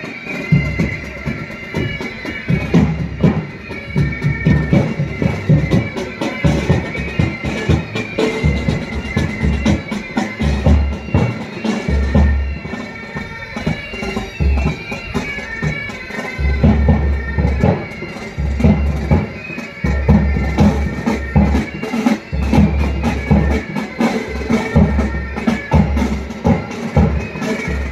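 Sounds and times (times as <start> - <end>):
bagpipes playing a tune: 0.0 - 27.9
bass and snare drums: 0.5 - 27.9.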